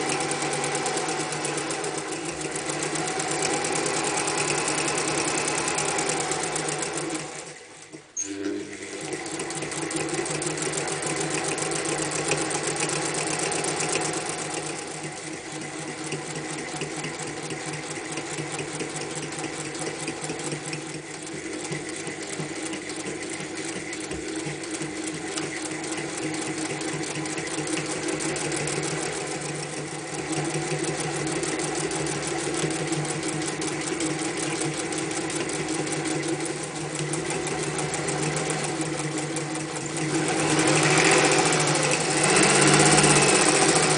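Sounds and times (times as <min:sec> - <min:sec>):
sewing machine clattering: 0:00.0 - 0:08.2, 0:08.9 - 0:43.9.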